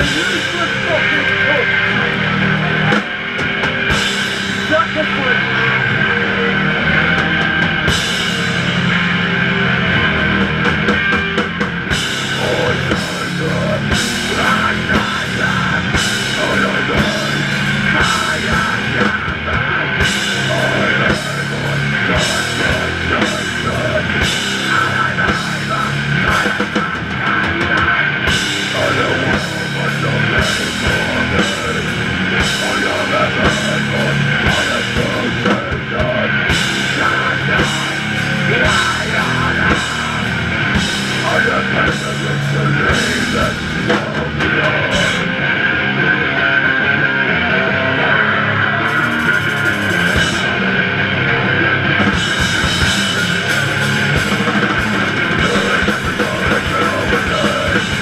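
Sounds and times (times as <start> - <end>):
punk band playing loud: 0.0 - 58.0.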